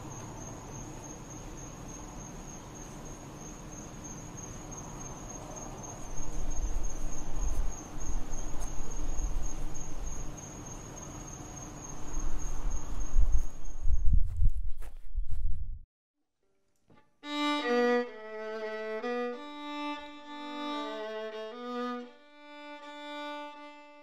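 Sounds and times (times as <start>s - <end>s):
crickets chirring: 0.0s - 14.4s, 17.7s - 23.8s.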